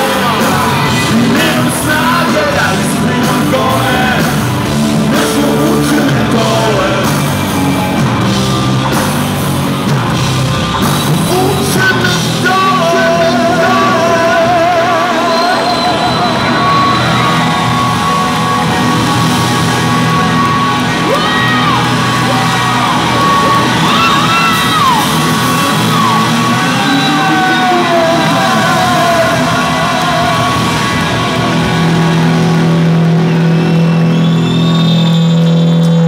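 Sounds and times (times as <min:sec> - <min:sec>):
drums: 0:00.0 - 0:36.0
electric guitar: 0:00.0 - 0:36.0.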